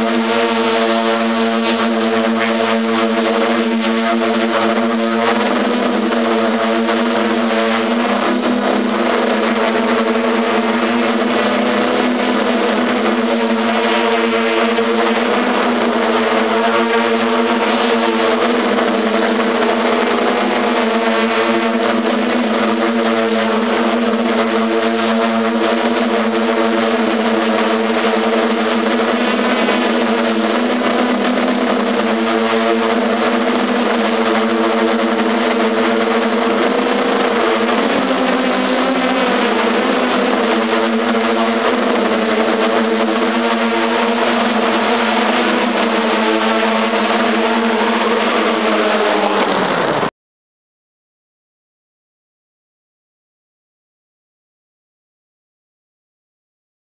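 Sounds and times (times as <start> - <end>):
drone motors buzzing: 0.0 - 50.1.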